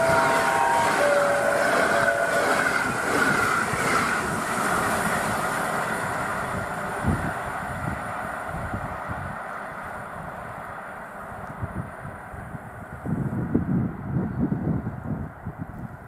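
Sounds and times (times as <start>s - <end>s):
train rumbling past: 0.0s - 15.6s.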